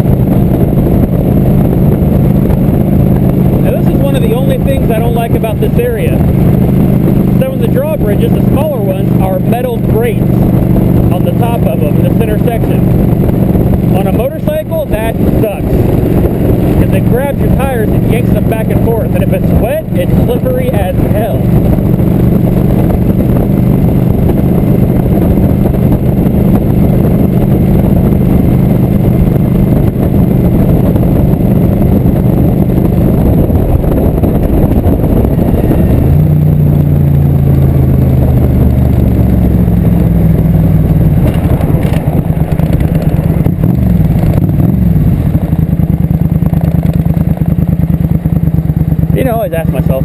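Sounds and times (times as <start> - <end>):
rushing noise: 0.0 - 46.8
motorcycle engine running: 0.0 - 50.0.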